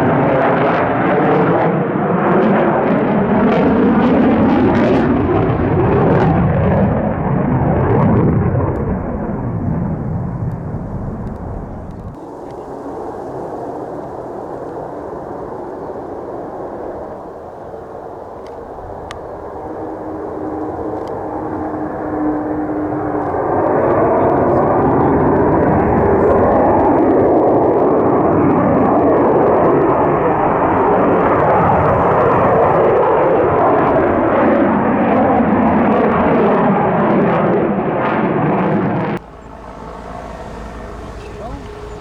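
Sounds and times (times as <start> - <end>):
aircraft engine roar: 0.0 - 42.0.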